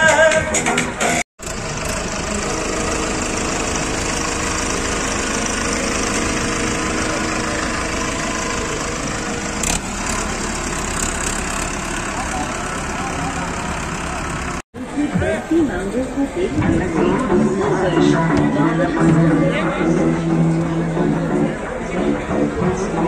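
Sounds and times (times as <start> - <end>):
tractor diesel engine idling: 1.4 - 23.0.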